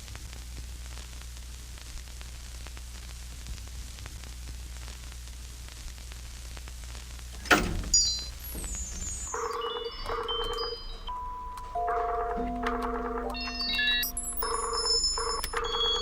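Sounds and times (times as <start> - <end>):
faint crackles: 0.0 - 16.0
static hiss: 0.0 - 16.0.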